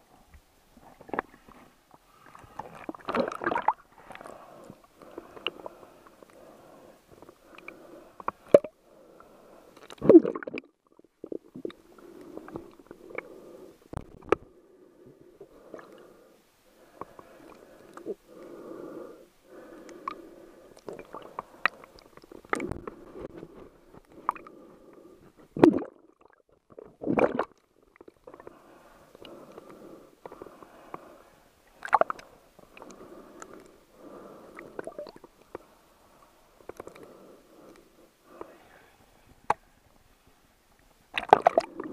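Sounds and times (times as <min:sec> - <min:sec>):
underwater gurgling and sloshing: 0:00.0 - 0:41.9.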